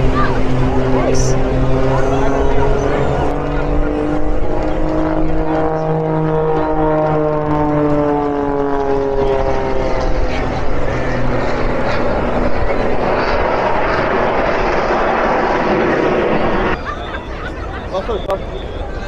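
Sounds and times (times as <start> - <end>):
rushing jet noise: 0.0 - 18.6
jet engine whine: 0.0 - 19.0.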